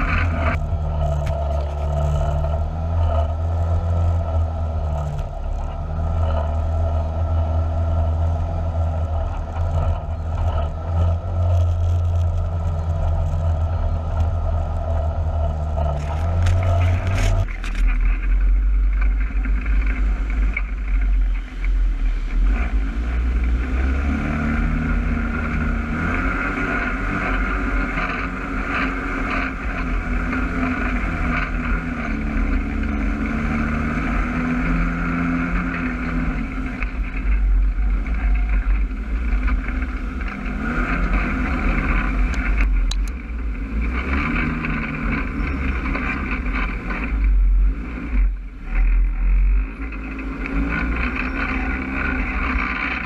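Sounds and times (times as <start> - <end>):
engine deep rumble with whine: 0.0 - 53.0
vehicle engine low drone: 0.0 - 53.0.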